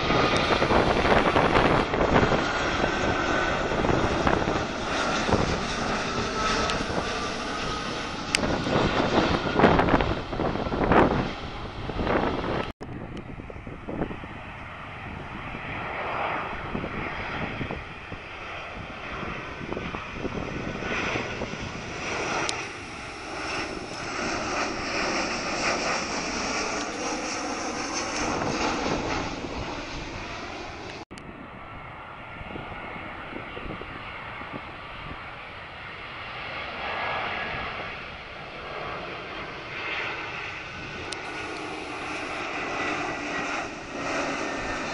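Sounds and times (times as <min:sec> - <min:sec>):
airliner jet engines passing overhead: 0:00.0 - 0:44.9
second airliner approaching: 0:00.0 - 0:44.9.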